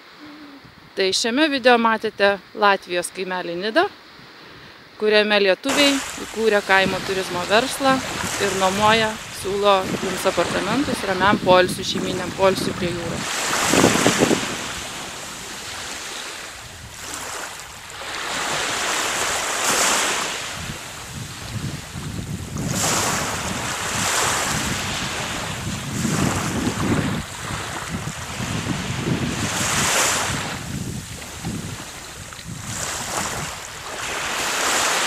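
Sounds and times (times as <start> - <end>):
sea surf: 0.0 - 35.0
wind buffeting microphone: 5.7 - 35.0.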